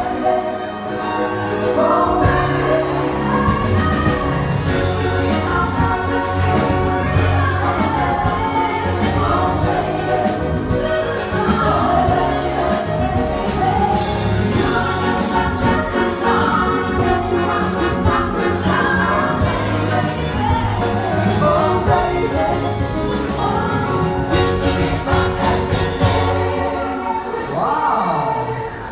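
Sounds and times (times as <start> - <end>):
big band playing: 0.0 - 28.9
voices singing together: 0.0 - 28.9.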